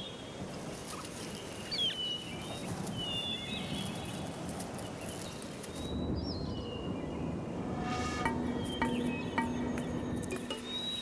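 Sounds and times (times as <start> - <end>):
small birds chirping: 0.0 - 7.3, 8.5 - 11.0
outdoor background hiss: 0.0 - 11.0.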